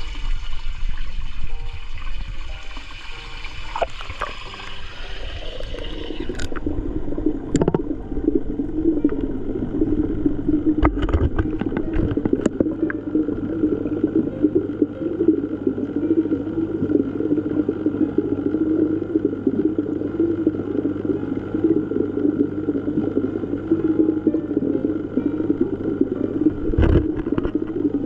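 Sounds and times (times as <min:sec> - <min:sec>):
underwater bubbling: 0:00.0 - 0:28.0.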